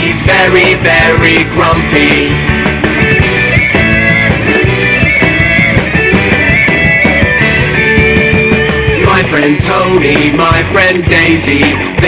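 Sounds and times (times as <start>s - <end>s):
instrumental children's song: 0.0s - 12.0s.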